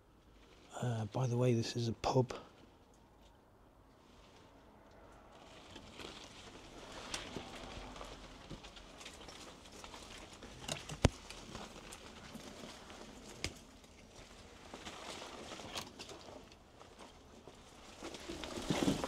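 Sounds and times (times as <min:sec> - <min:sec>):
twigs rustling and crackling: 0:00.0 - 0:19.0.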